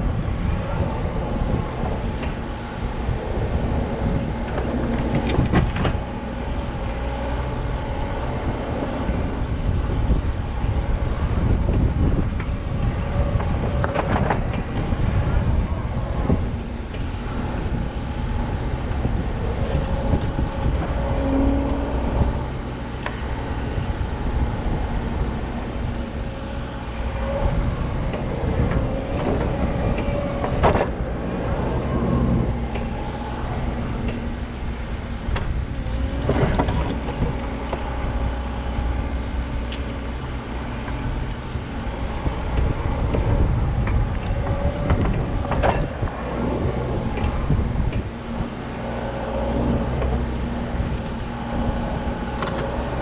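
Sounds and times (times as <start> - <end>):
backhoe diesel engine running: 0.0 - 53.0.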